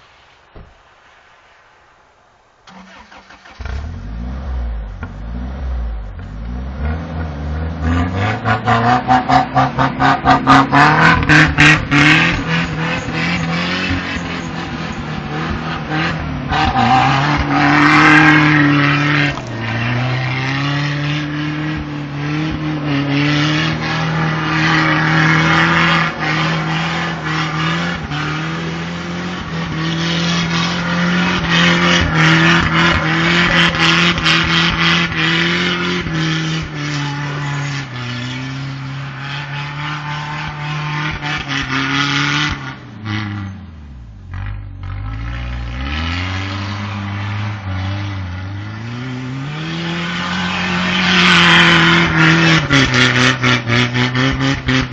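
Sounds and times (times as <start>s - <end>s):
car engine revving: 2.7s - 54.9s.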